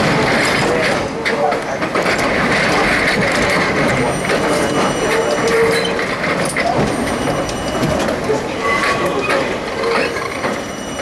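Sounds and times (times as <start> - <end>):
subway car rumble: 0.0 - 11.0.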